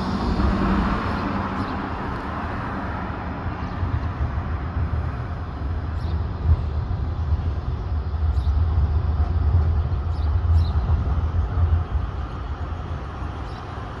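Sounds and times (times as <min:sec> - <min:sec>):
street traffic: 0:00.0 - 0:14.0
tram rumbling on track: 0:00.0 - 0:14.0.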